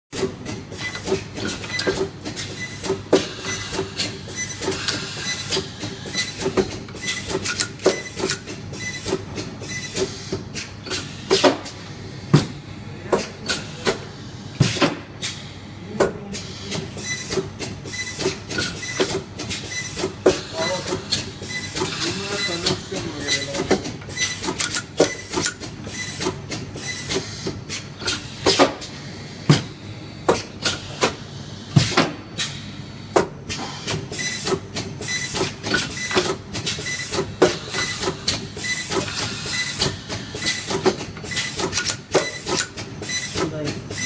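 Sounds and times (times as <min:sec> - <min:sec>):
steady machine hum: 0:00.2 - 0:44.0.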